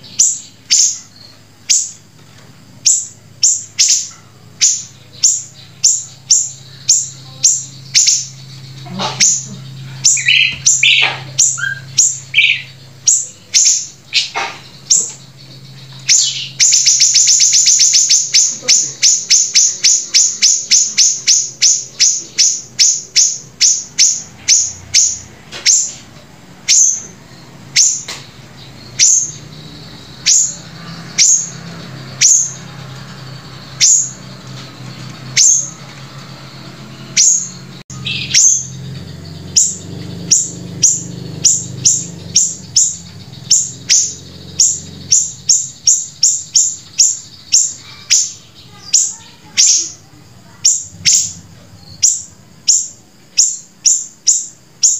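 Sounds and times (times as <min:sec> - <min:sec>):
faint low hum: 0:00.0 - 0:54.9
songbird calling sharp notes: 0:00.0 - 0:54.9.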